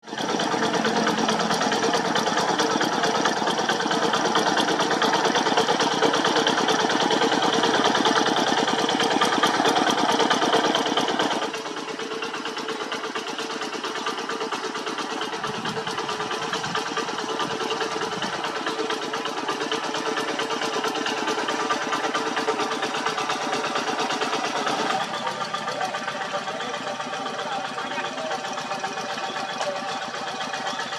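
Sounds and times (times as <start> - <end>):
hand tractor diesel engine running: 0.0 - 30.9.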